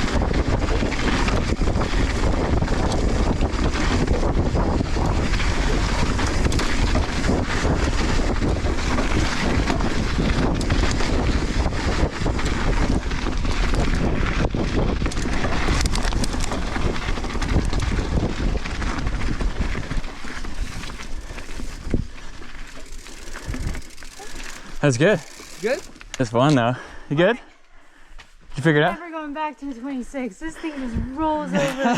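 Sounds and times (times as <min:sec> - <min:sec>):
wind buffeting microphone: 0:00.0 - 0:25.9
tyres rolling over soil: 0:00.0 - 0:26.5
bike rattling over rocks: 0:00.0 - 0:26.6.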